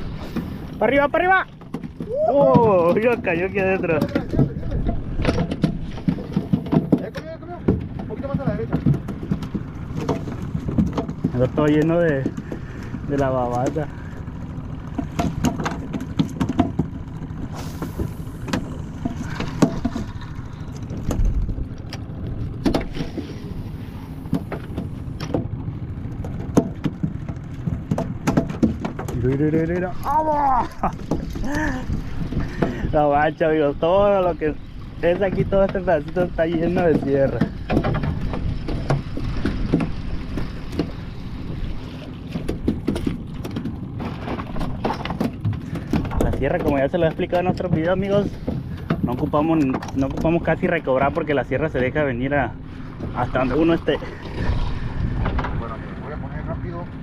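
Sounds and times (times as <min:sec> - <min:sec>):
knocks and clicks on a boat: 0:00.0 - 0:57.0
steady low rumble: 0:00.0 - 0:57.0.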